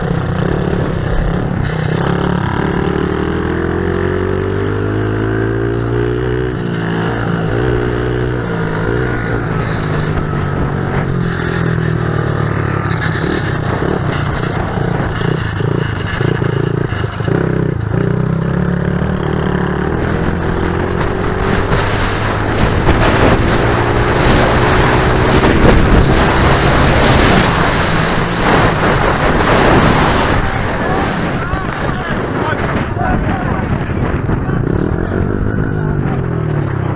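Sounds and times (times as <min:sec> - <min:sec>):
pit bike engine revving: 0:00.0 - 0:36.9.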